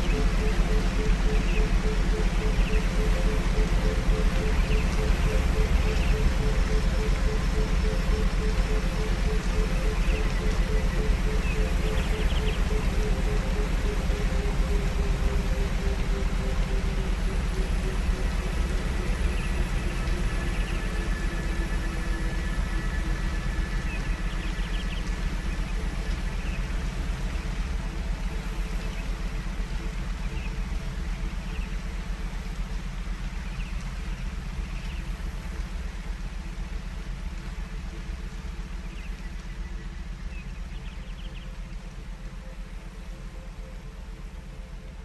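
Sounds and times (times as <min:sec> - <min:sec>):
hiss-like noise: 0:00.0 - 0:45.0
low droning tones: 0:00.0 - 0:45.0.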